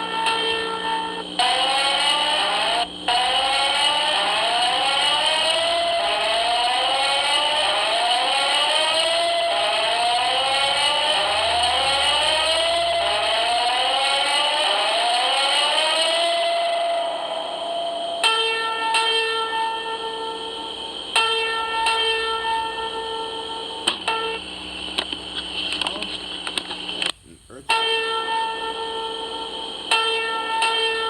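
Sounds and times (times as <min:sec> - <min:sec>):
alarm whooping: 0:00.0 - 0:26.1.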